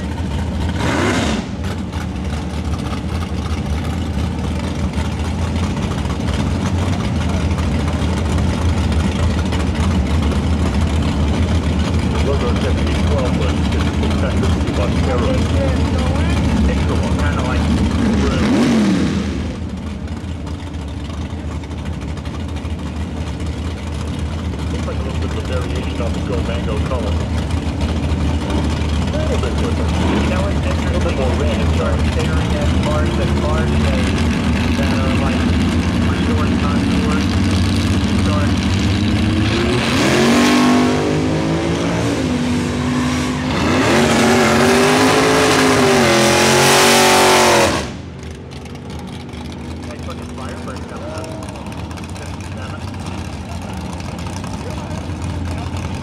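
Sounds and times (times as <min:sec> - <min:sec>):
engine revving: 0:00.0 - 0:21.6, 0:22.2 - 0:56.0
muscle cars idling: 0:00.0 - 0:56.0.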